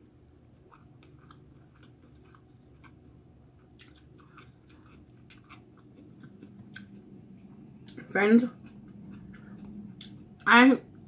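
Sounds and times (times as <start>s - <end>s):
faint chewing: 0.6s - 10.5s.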